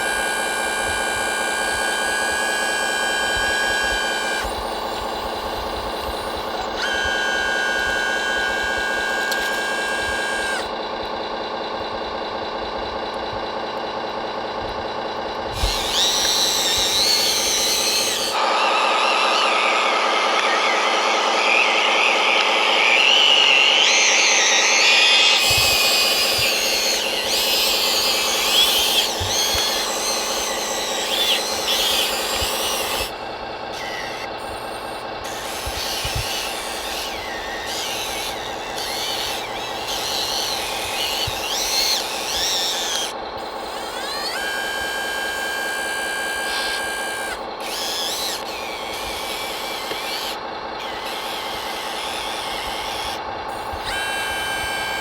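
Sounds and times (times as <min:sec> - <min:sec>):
electric motor hum: 0:00.0 - 0:55.0
motor whines changing pitch: 0:00.0 - 0:55.0.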